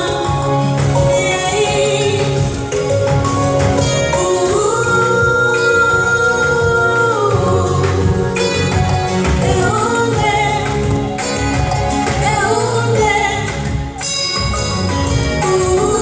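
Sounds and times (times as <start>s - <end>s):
woman singing gospel song: 0.0s - 3.0s, 3.9s - 14.2s, 15.3s - 16.0s
backing music with heavy bass: 0.0s - 16.0s.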